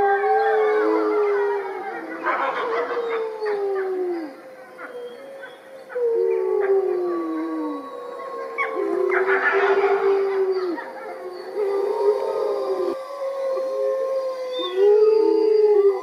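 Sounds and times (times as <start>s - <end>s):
wolves howling in chorus: 0.0s - 16.0s.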